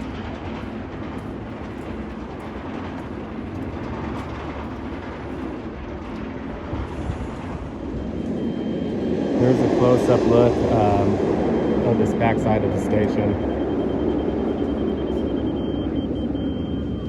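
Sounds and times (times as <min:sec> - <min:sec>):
roller coaster rumbling on track: 0:00.0 - 0:17.0.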